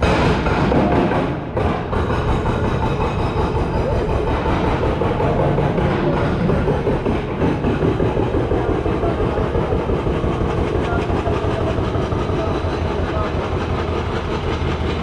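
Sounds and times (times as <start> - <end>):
busy street noise: 0.0 - 15.0.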